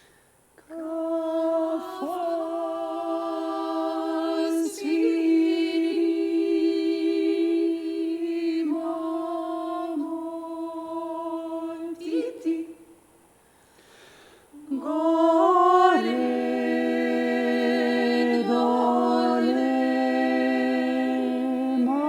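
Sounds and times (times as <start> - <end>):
vocal ensemble singing a cappella: 0.6 - 22.0.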